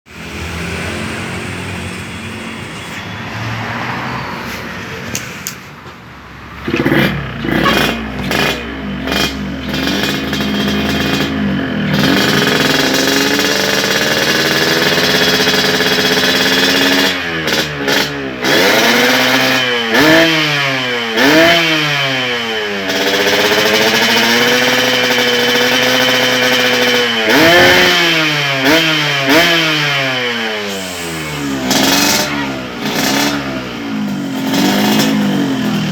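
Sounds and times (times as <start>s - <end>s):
two-stroke motorcycle engine revving: 6.6s - 35.9s.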